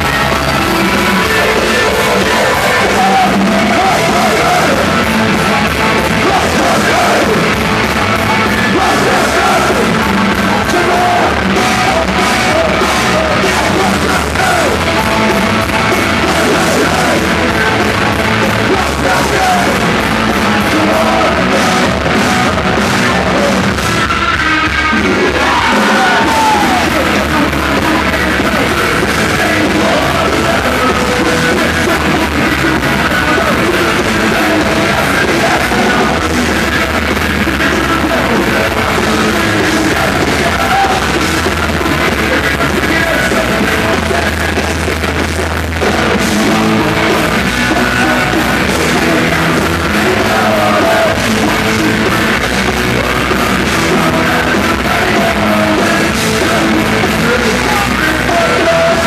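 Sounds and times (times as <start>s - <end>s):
loud rock band playing: 0.0s - 59.0s
yelled vocals: 0.0s - 59.0s.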